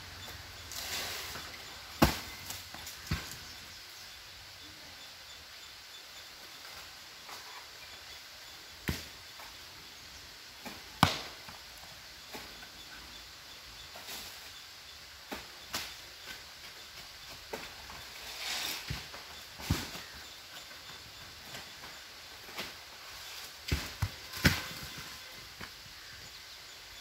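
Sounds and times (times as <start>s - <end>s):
faint outdoor background: 0.0s - 27.0s.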